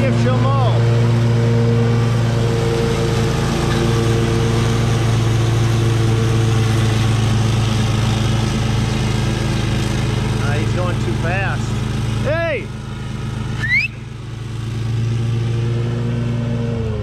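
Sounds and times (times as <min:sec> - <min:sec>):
lawn mower cutting wet grass: 0:00.0 - 0:17.0.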